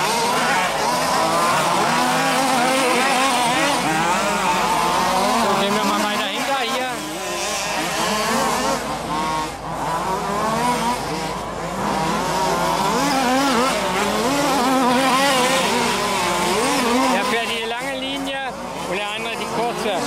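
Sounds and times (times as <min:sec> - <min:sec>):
rc buggy engines revving: 0:00.0 - 0:20.0.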